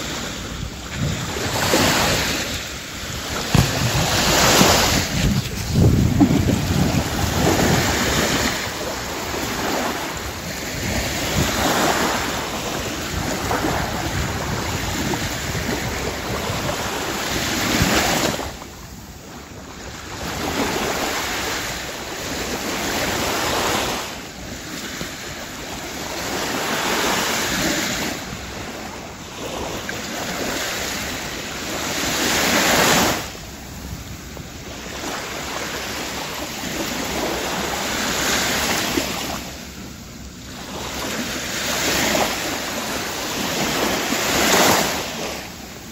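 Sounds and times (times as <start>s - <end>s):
small waves washing on beach: 0.0s - 45.9s.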